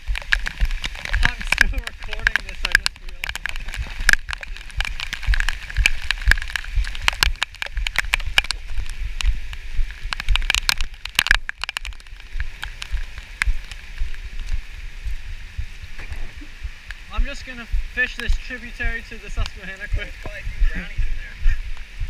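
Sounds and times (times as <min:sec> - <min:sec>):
rain drops tapping: 0:00.0 - 0:22.0
steady rain hiss: 0:00.0 - 0:22.0.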